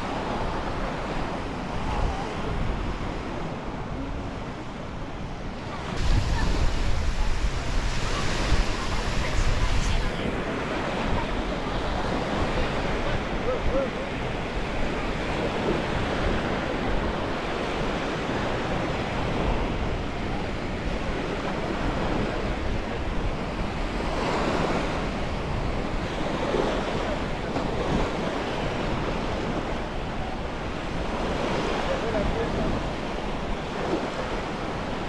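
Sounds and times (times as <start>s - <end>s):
surf washing onto beach: 0.0s - 35.0s
wind buffeting microphone: 0.0s - 35.0s.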